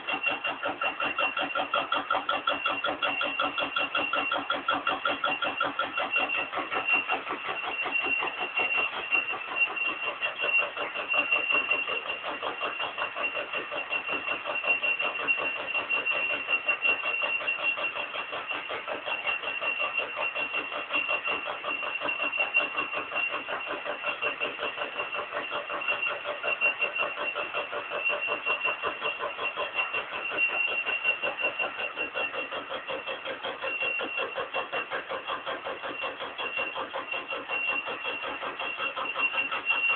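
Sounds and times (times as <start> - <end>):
stamping press strokes: 0.0 - 39.9.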